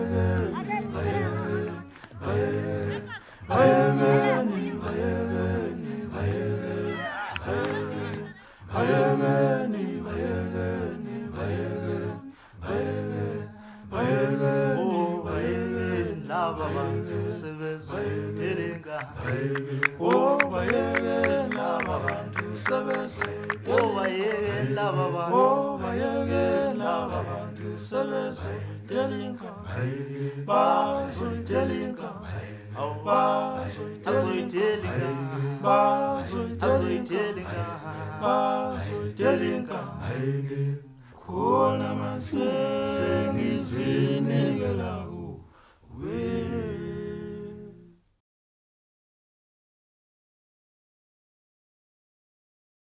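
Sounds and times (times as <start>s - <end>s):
song with singing voices: 0.0s - 48.1s.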